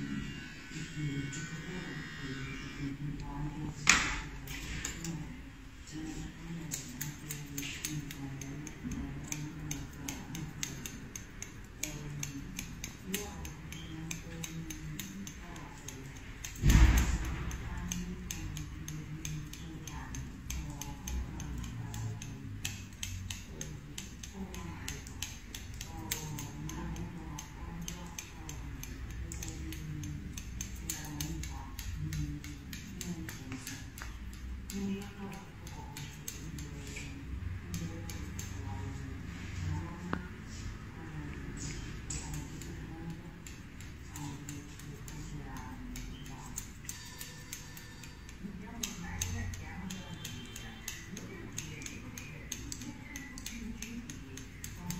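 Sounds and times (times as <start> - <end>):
scissors snipping: 6.1 - 39.2, 41.6 - 54.9.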